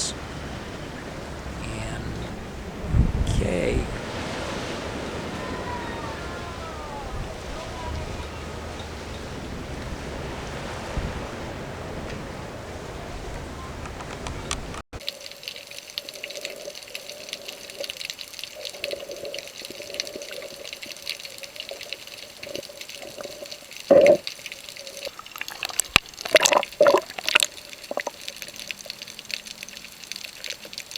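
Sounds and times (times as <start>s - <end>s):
water splashing and dripping: 4.0s - 30.9s.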